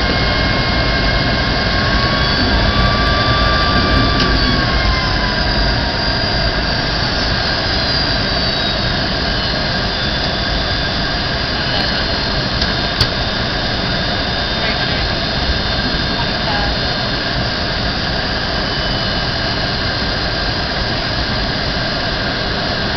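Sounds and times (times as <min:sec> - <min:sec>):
jet engine drone in cabin: 0:00.0 - 0:22.9.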